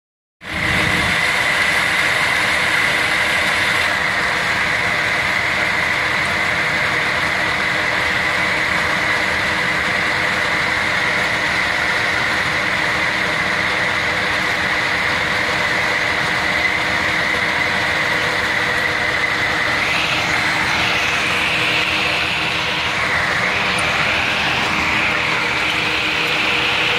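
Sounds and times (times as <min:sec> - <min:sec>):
combine engine hum: 0:00.4 - 0:26.9
high-pitched whine: 0:00.4 - 0:26.9.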